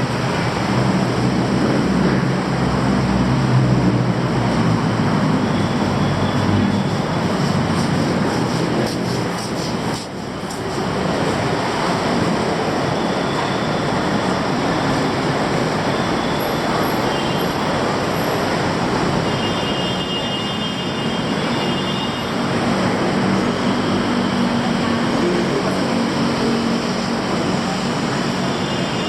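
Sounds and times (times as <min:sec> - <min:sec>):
city traffic rushing: 0:00.0 - 0:29.0.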